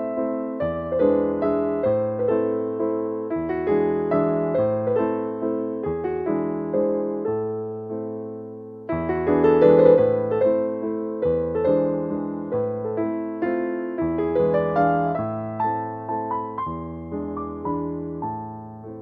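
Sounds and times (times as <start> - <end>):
soft piano slow chords: 0.0 - 19.0.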